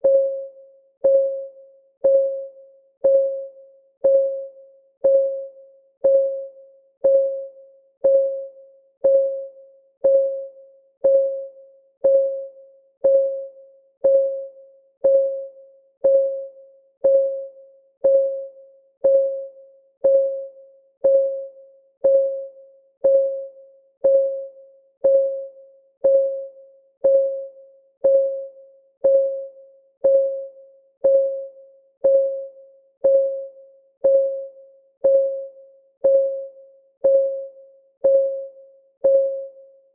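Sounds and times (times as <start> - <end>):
countdown timer ticking: 2.0 - 2.4, 3.0 - 4.4, 5.0 - 39.6.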